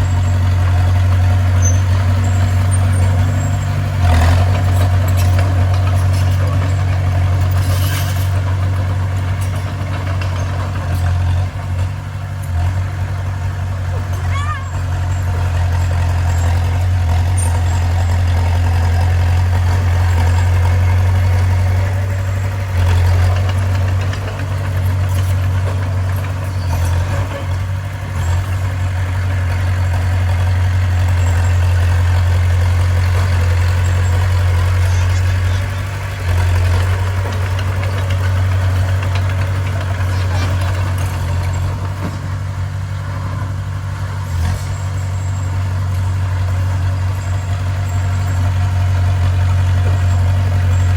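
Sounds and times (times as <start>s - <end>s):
bulldozer diesel engine drone: 0.0s - 50.9s.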